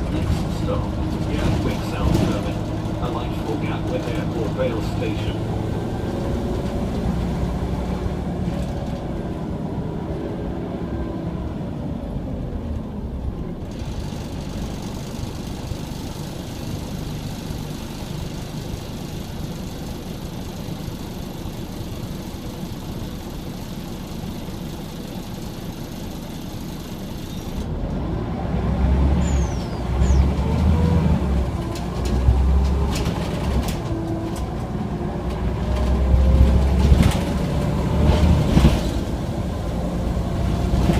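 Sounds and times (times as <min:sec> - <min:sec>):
bus diesel engine running: 0:00.0 - 0:40.9
road and cabin noise: 0:00.0 - 0:40.9.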